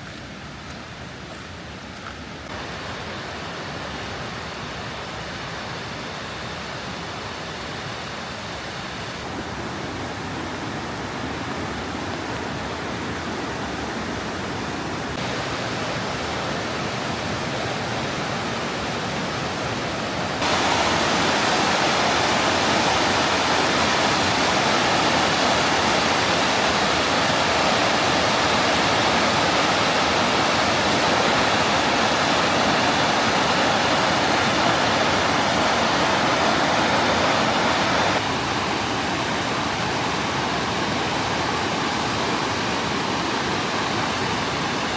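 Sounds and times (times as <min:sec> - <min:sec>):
waterfall rushing water: 0:00.0 - 0:44.9.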